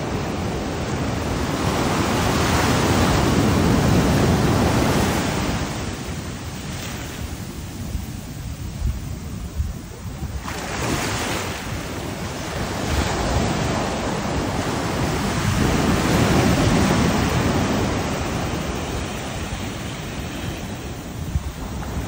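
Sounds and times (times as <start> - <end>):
surf breaking on beach: 0.0 - 22.0.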